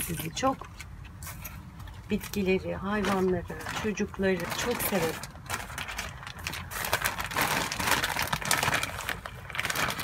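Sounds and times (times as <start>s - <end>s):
soil and plastic rustling: 0.0s - 10.0s.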